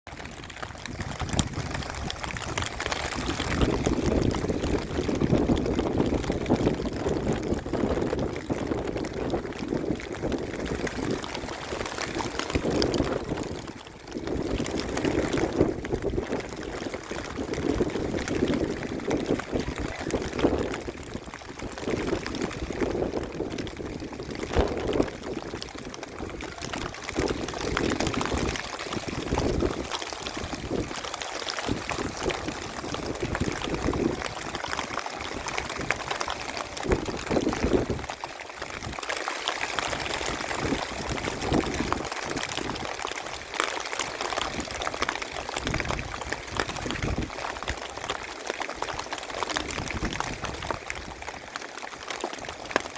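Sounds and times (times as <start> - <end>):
rainwater pouring and splashing: 0.1 - 52.9.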